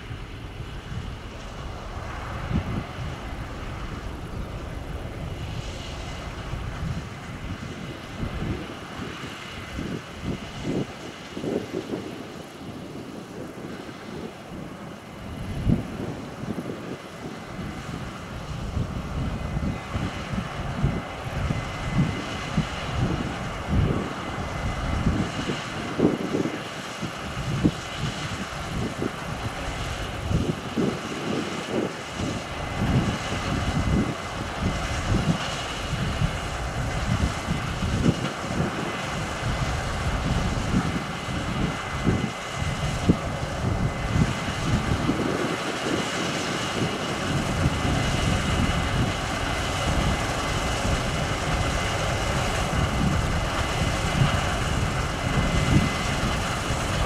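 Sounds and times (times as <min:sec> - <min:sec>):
combine harvester running: 0:00.0 - 0:57.0
wind buffeting microphone: 0:00.0 - 0:57.0.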